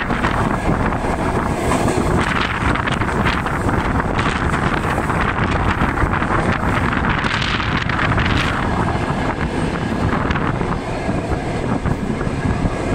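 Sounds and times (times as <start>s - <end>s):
train carriage rumble on rails: 0.0s - 12.9s
wind rushing over microphone: 0.0s - 12.9s.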